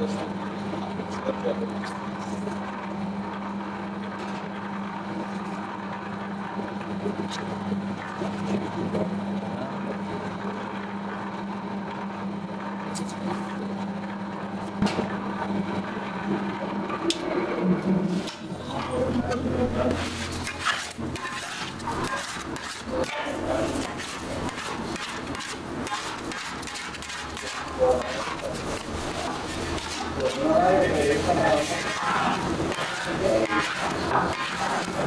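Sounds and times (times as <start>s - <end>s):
dough mixer motor hum: 0.0s - 35.0s.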